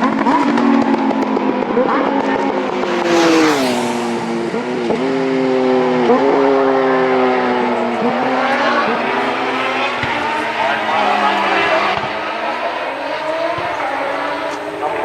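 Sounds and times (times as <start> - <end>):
motorcycle engine passing at speed: 0.0 - 15.0.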